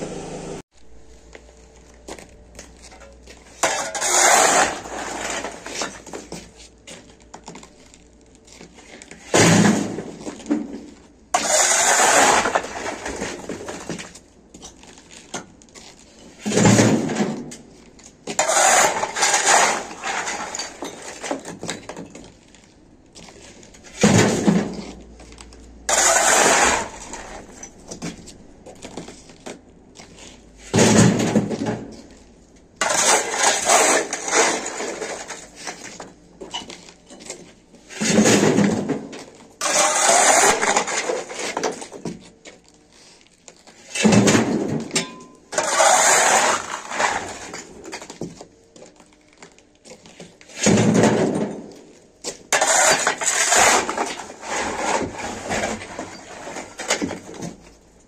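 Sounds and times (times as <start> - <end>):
shovel scraping concrete floor: 1.8 - 48.5, 49.9 - 57.8.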